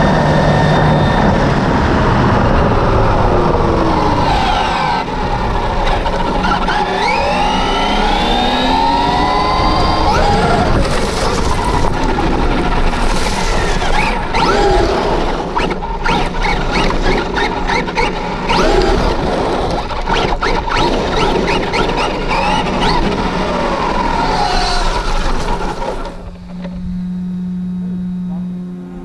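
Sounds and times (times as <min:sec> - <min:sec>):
wind and tyre noise: 0:00.0 - 0:27.4
rc truck electric motor whining: 0:00.0 - 0:29.0.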